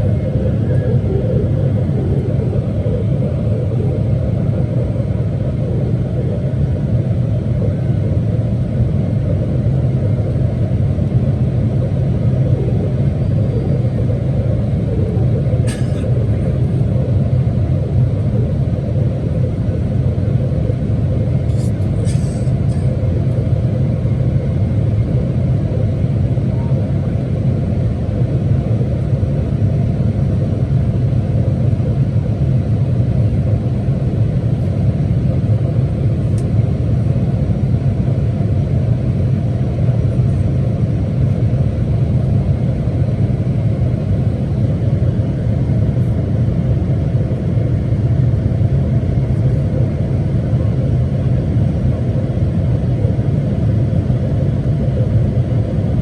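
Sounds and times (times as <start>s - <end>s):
airliner cabin noise: 0.0s - 56.0s.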